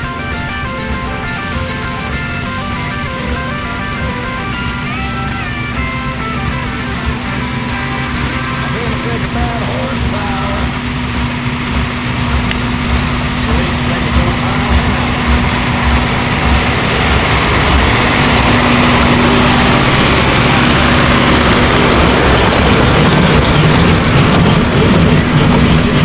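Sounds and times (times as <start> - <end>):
baler machinery clattering: 0.0 - 26.0
tractor engine running under load: 0.0 - 26.0.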